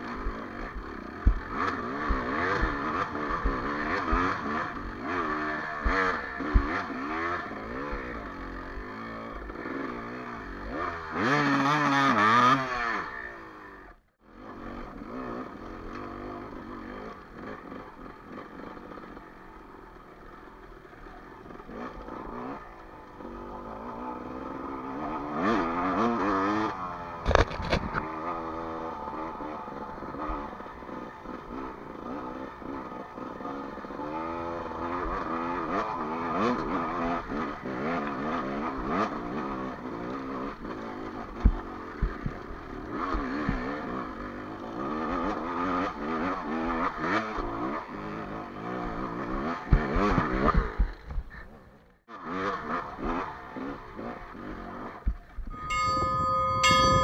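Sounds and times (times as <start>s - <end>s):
dirt bike engine revving: 0.0s - 51.0s, 52.1s - 57.0s.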